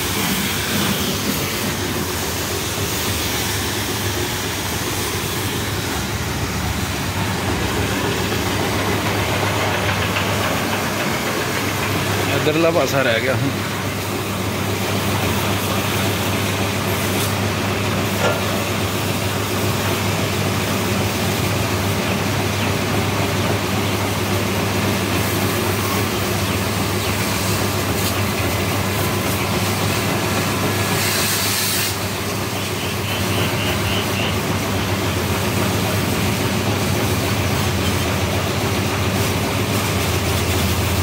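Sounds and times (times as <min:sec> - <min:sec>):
high-pressure water spray hissing: 0:00.0 - 0:41.0.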